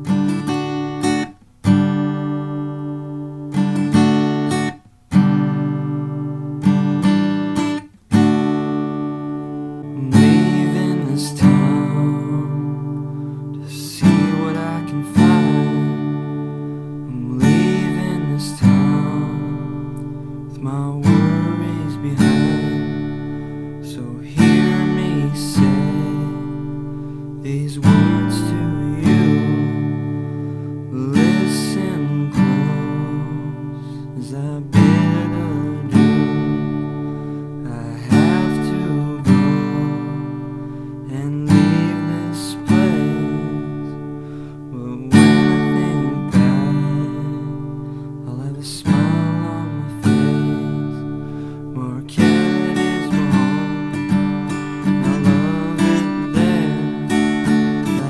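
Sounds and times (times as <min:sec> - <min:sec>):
strummed acoustic guitar music: 0:00.0 - 0:58.0.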